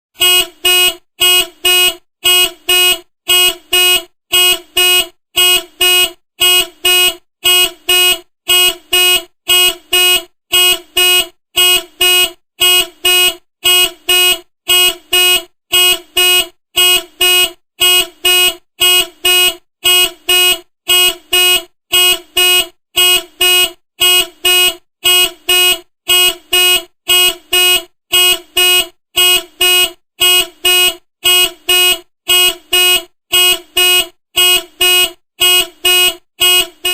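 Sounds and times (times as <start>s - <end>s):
car horn beeping: 0.2s - 36.9s.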